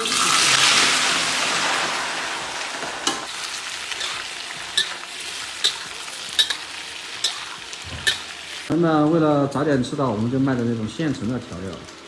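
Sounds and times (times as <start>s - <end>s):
meat sizzling in hot fat: 0.0s - 12.0s.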